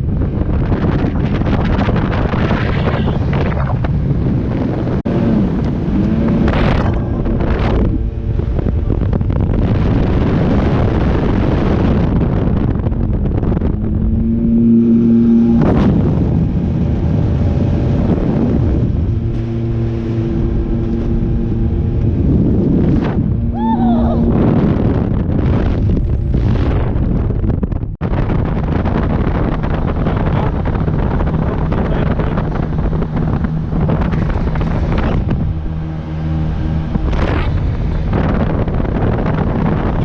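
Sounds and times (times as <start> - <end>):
motorboat engine running: 0.0 - 40.0
wind buffeting microphone: 0.0 - 40.0.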